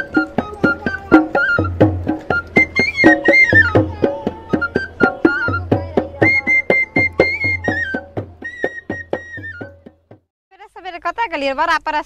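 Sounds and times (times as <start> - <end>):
flute melody: 0.0 - 10.2
steady drum beat: 0.0 - 10.2.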